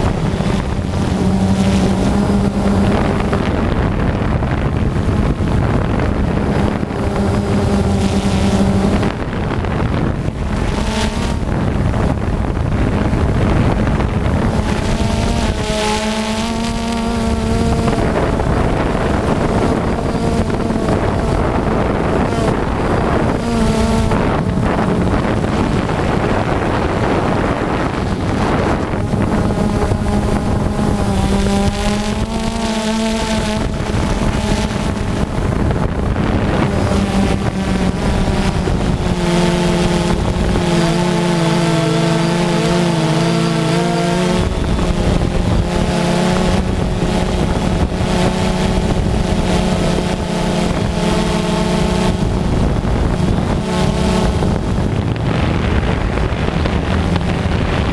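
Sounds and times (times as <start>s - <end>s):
drone motors whining: 0.0s - 57.9s
wind on microphone: 0.0s - 57.9s.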